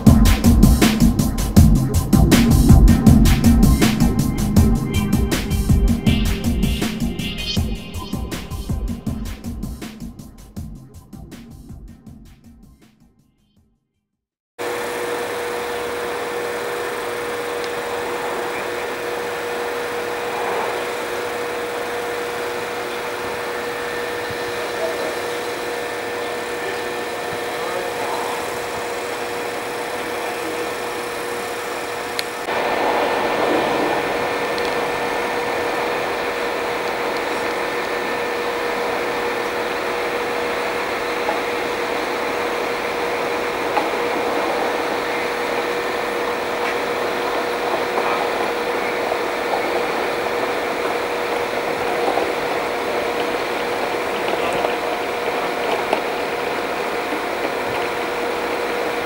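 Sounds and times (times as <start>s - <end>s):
diesel engines humming: 0.0s - 12.6s, 15.3s - 59.0s
constant whine: 0.0s - 13.0s, 14.6s - 59.0s.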